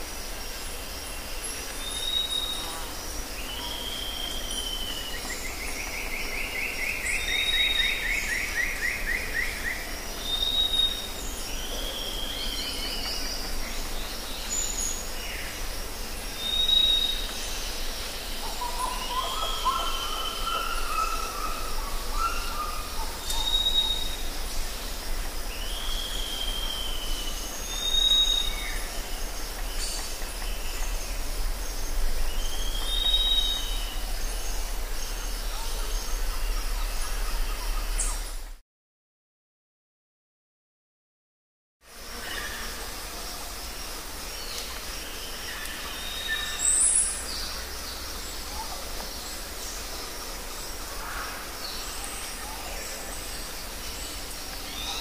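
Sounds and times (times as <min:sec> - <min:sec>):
steady background hiss: 0:00.0 - 0:38.6, 0:41.9 - 0:55.0.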